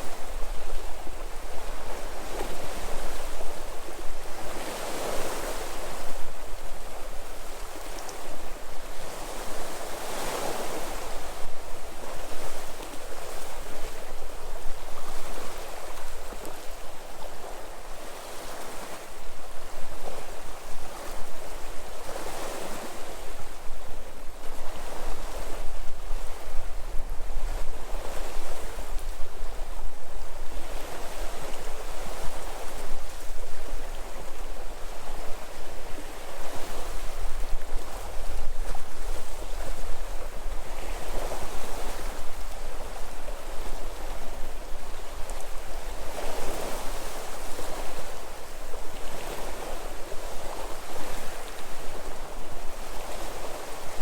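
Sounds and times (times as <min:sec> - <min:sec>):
sea waves washing onto shore: 0:00.0 - 0:54.0
wind rumble on microphone: 0:00.0 - 0:54.0.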